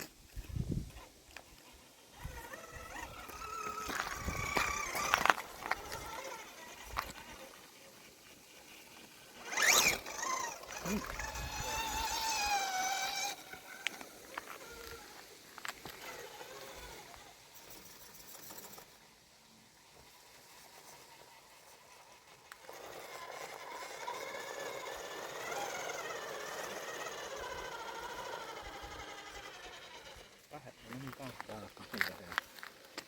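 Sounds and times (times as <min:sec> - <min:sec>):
electric motor and gearbox whining: 0:00.0 - 0:33.0.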